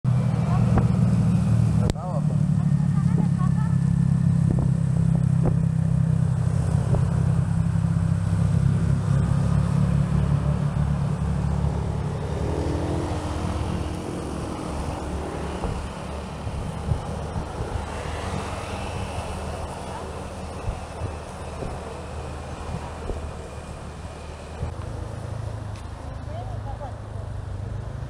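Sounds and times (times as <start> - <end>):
motorcycle engine running: 0.1 - 27.1
tyres hissing on wet road: 3.6 - 28.0.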